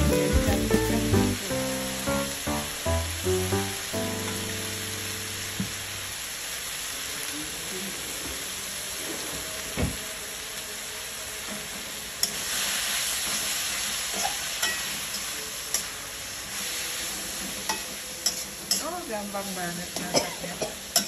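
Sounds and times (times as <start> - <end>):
flowers sizzling in a wok: 0.0 - 21.0.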